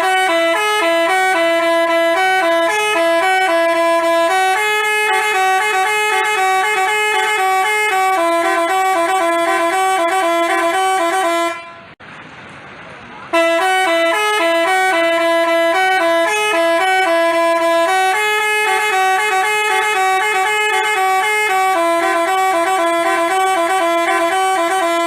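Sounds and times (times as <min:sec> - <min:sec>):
bus horn playing fast tune: 0:00.0 - 0:12.0, 0:13.3 - 0:25.0.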